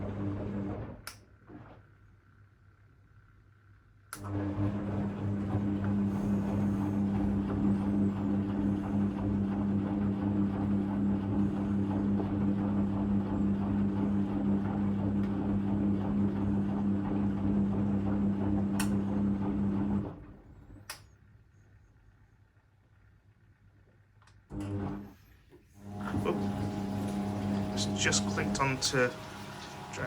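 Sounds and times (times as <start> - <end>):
washing machine motor hum: 0.0 - 21.7, 24.4 - 30.0.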